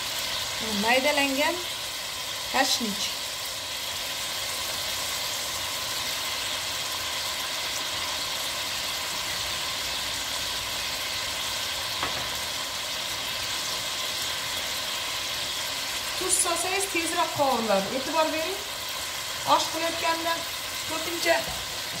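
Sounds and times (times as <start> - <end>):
meat and onions sizzling: 0.0 - 22.0.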